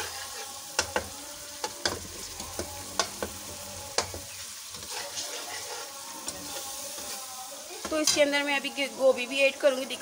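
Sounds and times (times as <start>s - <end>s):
metal spatula scraping pan: 0.0s - 8.4s
food sizzling in oil: 0.0s - 10.0s.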